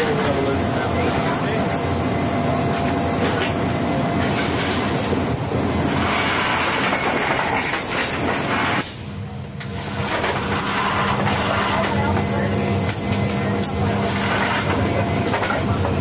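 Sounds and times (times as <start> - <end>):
aircraft cabin running noise: 0.0 - 16.0.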